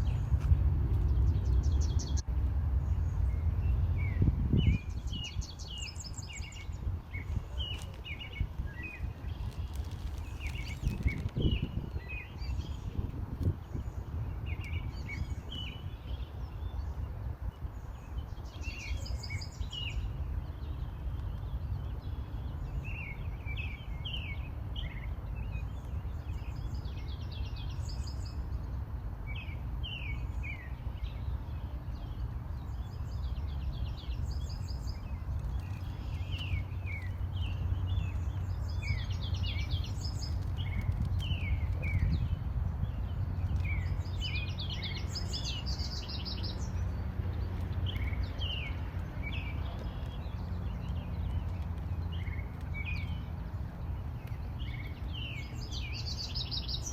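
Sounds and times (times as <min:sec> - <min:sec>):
songbirds chirping: 0:00.0 - 0:56.9
steady low rumble: 0:00.0 - 0:56.9.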